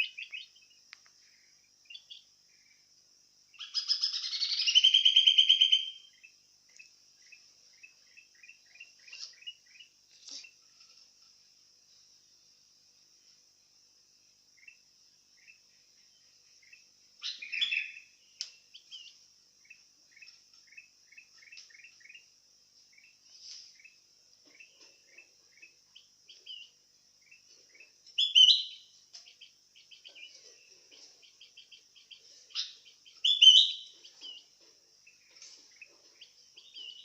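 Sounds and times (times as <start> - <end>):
bulbul chirping and singing: 0.0 - 2.9, 3.5 - 10.6, 14.6 - 23.2, 23.8 - 37.0
steady high hiss: 0.0 - 37.0.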